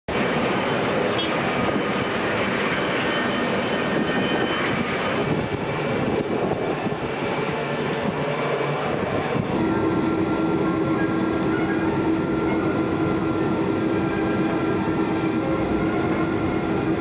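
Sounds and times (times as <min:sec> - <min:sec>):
jet turbine roar: 0:00.1 - 0:17.0.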